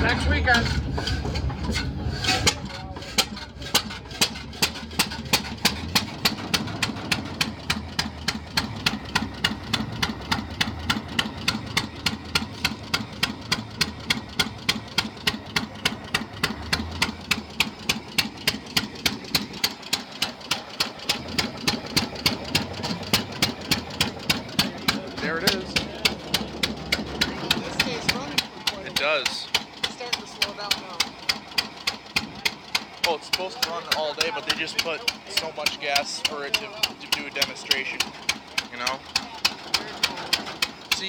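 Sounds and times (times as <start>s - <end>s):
stationary engine knocking: 0.0s - 41.0s.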